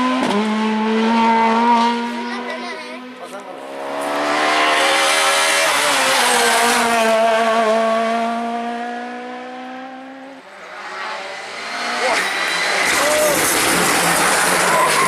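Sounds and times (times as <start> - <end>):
rally car passing at speed: 0.0 - 15.0.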